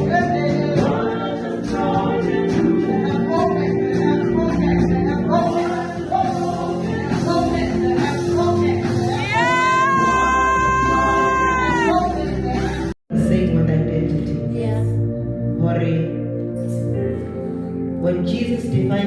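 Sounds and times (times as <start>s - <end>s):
gospel singing: 0.0s - 19.0s
instrumental backing music: 0.0s - 19.0s.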